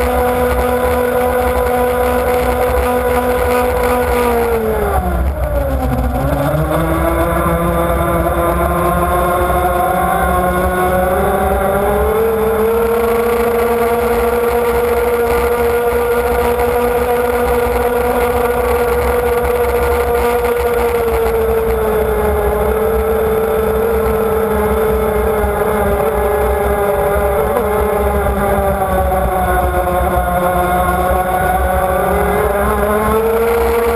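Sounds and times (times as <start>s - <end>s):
powerboat engine running: 0.0s - 33.9s.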